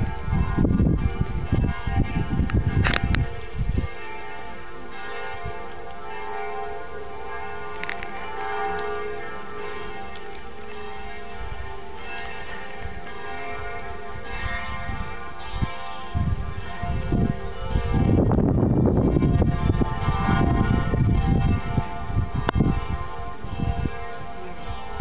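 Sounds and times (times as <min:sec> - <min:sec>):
large bells ringing: 0:00.0 - 0:25.0.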